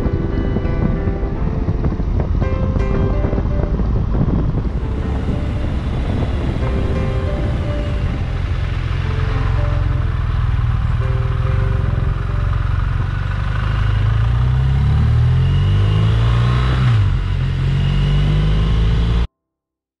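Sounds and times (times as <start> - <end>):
motorcycle engine accelerating: 0.0 - 19.3.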